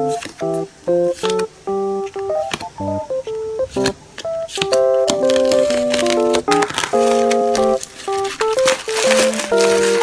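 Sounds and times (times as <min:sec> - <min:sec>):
crackling clicks and crinkles: 0:00.0 - 0:10.0
keyboard music: 0:00.0 - 0:10.0.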